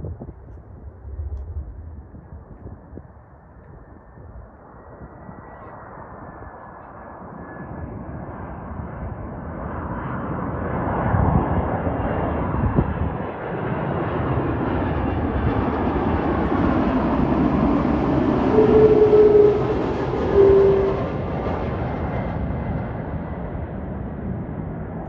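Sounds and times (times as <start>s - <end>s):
airliner engines roaring: 0.0s - 25.0s.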